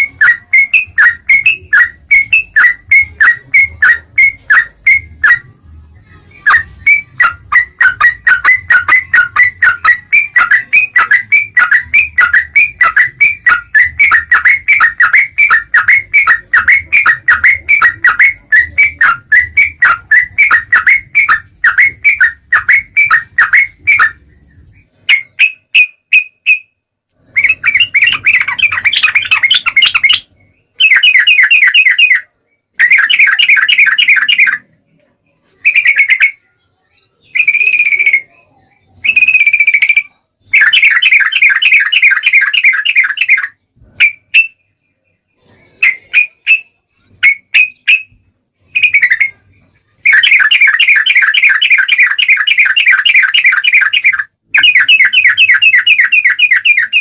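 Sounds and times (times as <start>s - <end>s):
bulbul chattering song: 0.0s - 34.8s, 35.4s - 57.0s.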